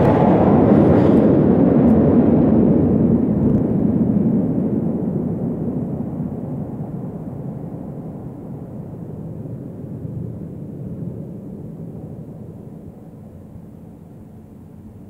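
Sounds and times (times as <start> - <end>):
electric train rumbling in tunnel: 0.0 - 15.0.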